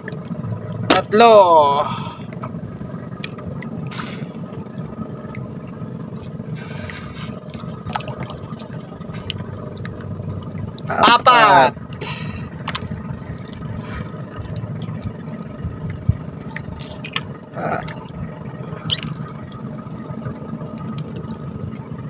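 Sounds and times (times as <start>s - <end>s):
water sloshing and dripping: 0.0s - 1.2s, 1.8s - 22.0s.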